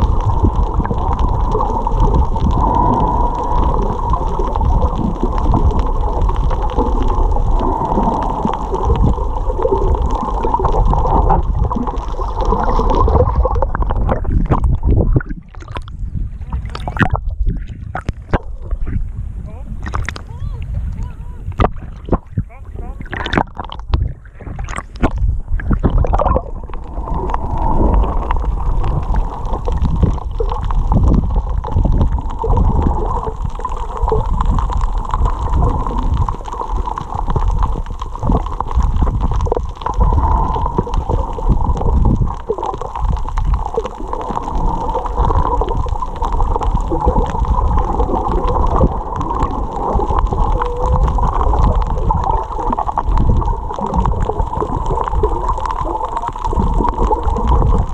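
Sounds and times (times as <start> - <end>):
heavy low rumble: 0.0 - 57.9
water sloshing and gurgling: 0.0 - 57.9.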